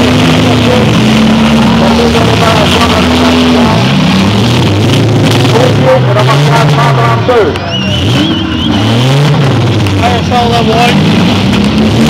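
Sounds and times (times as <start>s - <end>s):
car engines revving: 0.0s - 12.0s
large crowd din: 0.0s - 12.0s.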